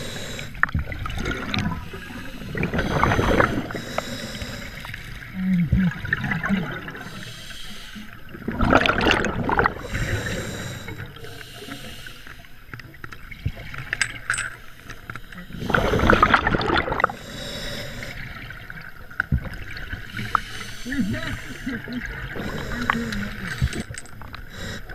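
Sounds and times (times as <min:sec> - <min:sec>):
exhaled bubbles underwater: 0:00.0 - 0:11.6, 0:15.2 - 0:24.9.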